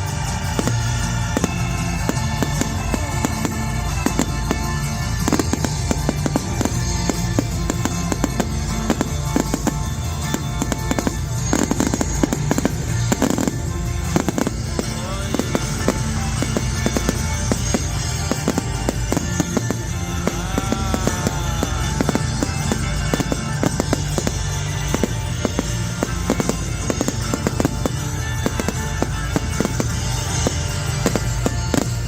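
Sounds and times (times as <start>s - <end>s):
fireworks bangs and crackles: 0.0s - 32.0s
loud music over speakers: 0.0s - 32.0s.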